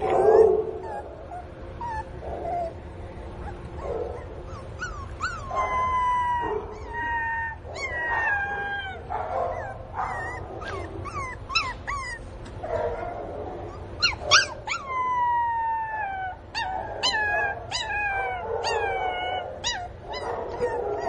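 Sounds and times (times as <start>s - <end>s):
puppy whining and yelping: 0.0s - 13.1s, 13.7s - 21.0s.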